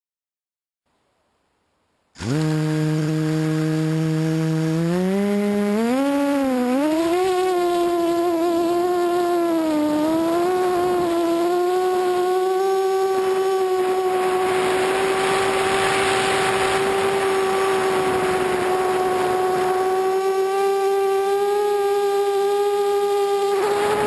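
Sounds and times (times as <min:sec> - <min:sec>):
drone motors whining: 0:02.2 - 0:24.0.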